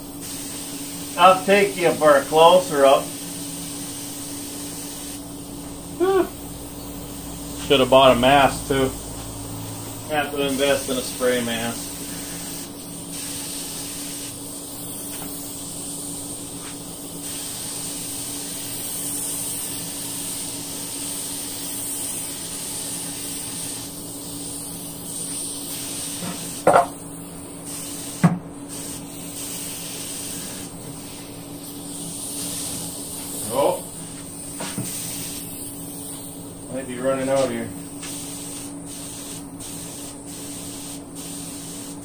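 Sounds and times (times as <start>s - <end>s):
spray gun hissing: 0.0s - 42.0s.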